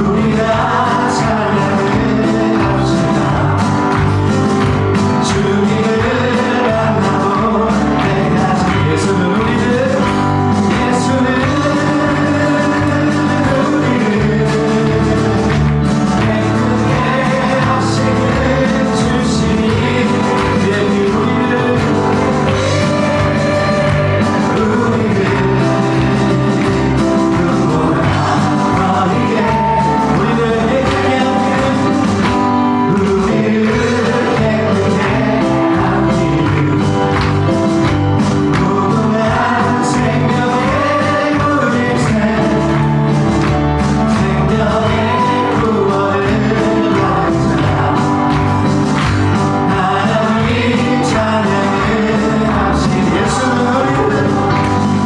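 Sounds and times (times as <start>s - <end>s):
band with singers performing: 0.0s - 55.0s.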